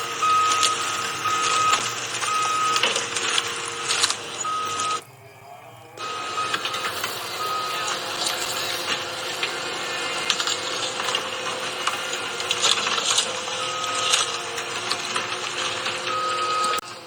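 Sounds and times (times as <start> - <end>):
excavator and truck engines: 0.0 - 5.0, 6.0 - 17.0
reversing alarm beep: 0.0 - 17.0.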